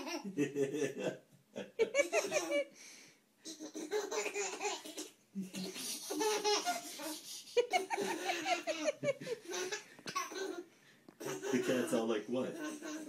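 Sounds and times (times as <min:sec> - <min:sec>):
baby laughing: 0:00.0 - 0:00.4, 0:01.8 - 0:02.7, 0:03.4 - 0:13.0.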